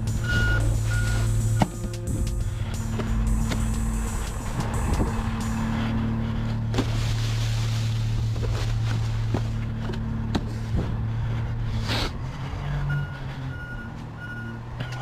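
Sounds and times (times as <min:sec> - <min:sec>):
garbage truck humming: 0:00.0 - 0:15.0.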